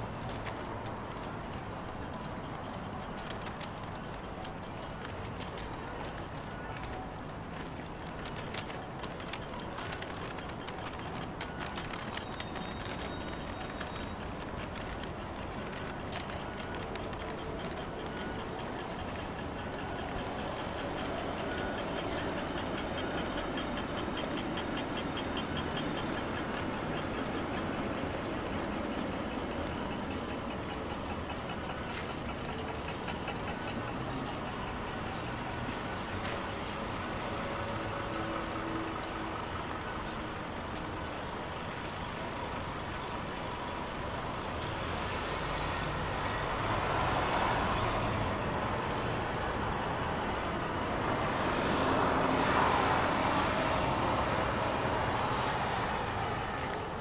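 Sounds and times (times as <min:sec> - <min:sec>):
buses passing close by: 0:00.0 - 0:57.0
city traffic din: 0:00.0 - 0:57.0.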